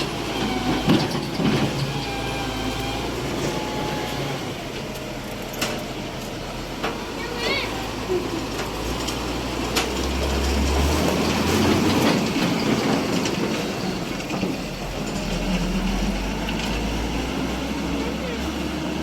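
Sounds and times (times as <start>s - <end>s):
road-cutting machine clattering: 0.0s - 19.0s.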